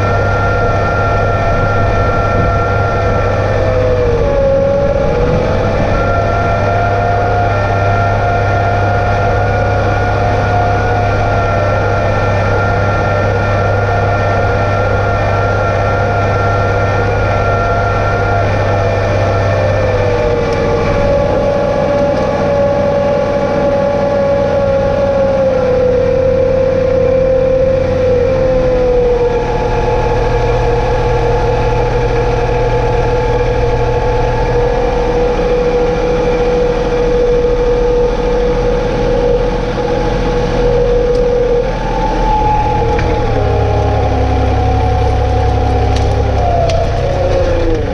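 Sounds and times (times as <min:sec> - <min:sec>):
tractor diesel engine droning: 0:00.0 - 0:47.9.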